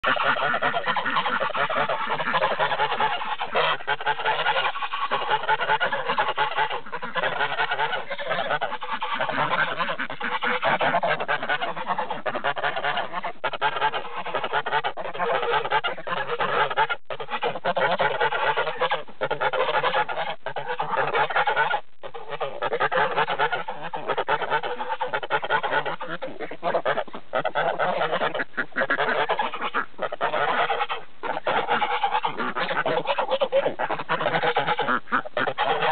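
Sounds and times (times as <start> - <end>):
geese honking: 0.0 - 35.9.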